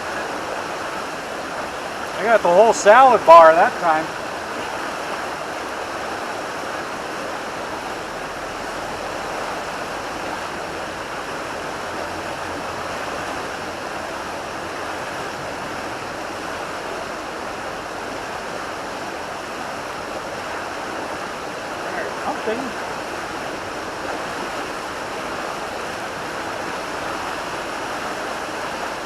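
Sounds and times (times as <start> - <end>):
river water flowing: 0.0 - 29.0.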